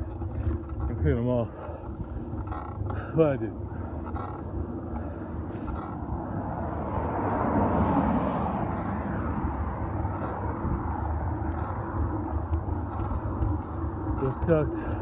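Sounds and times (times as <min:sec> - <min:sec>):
wind and road noise rumble: 0:00.0 - 0:15.0.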